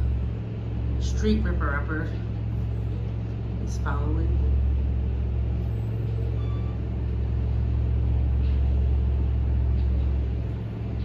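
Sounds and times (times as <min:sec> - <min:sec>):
diesel milling machine rumble: 0:00.0 - 0:11.0.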